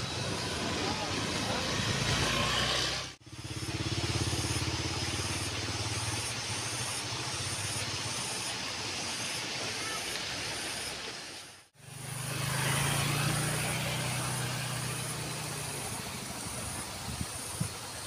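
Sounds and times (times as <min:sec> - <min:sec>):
motor engine hum: 0:00.0 - 0:08.2, 0:11.8 - 0:18.0
outdoor hiss: 0:00.0 - 0:18.0.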